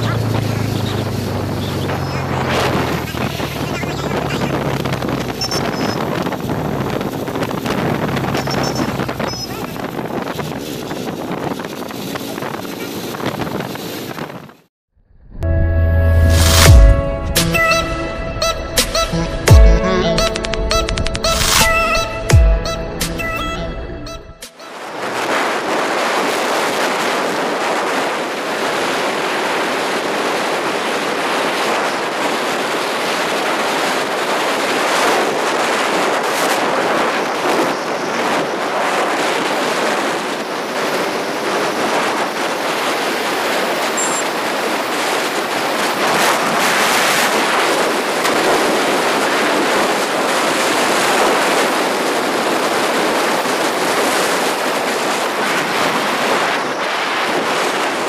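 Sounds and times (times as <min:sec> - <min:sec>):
wind buffeting microphone: 0:00.0 - 0:14.7, 0:24.7 - 0:58.0.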